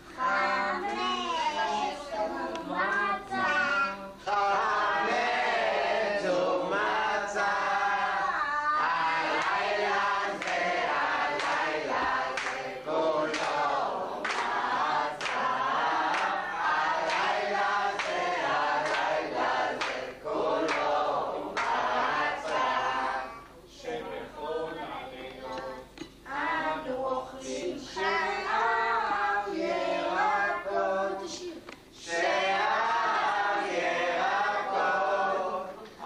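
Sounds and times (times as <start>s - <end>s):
group singing together: 0.0s - 36.0s.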